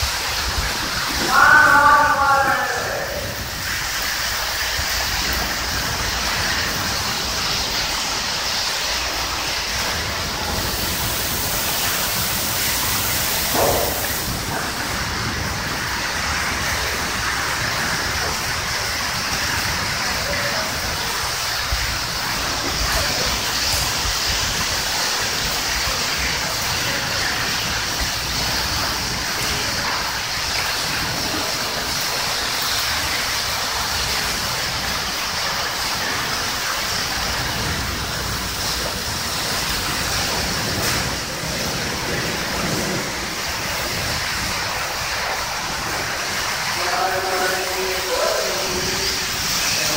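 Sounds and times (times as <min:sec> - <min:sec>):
floodwater rushing: 0:00.0 - 0:49.9
heavy rain: 0:00.0 - 0:49.9.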